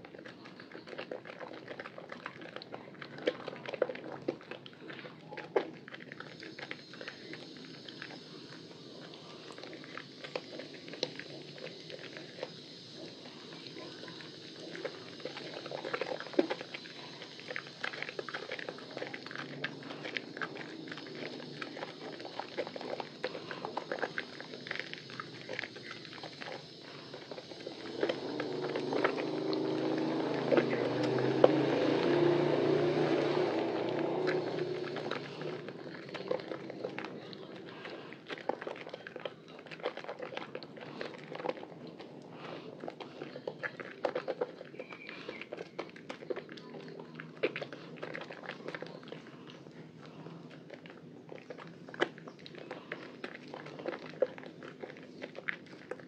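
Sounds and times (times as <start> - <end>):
wet soap squishing: 0.0 - 56.0.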